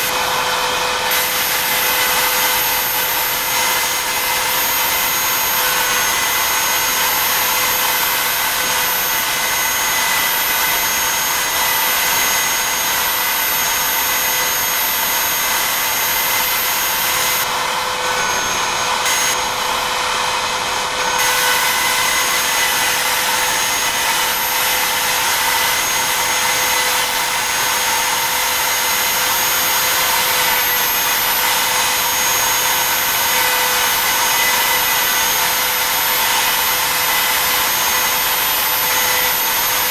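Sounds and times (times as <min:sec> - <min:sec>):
end mill cutting wood: 0:00.0 - 0:39.9
router spindle whine: 0:00.0 - 0:39.9.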